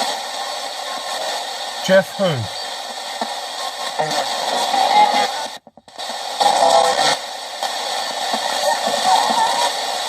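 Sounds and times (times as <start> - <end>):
radio static hiss: 0.0 - 10.0
snippets of broadcast sound: 0.0 - 10.0.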